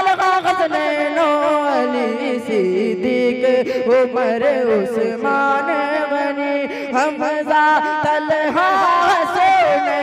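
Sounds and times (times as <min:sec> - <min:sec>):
boy singing unaccompanied: 0:00.0 - 0:10.0.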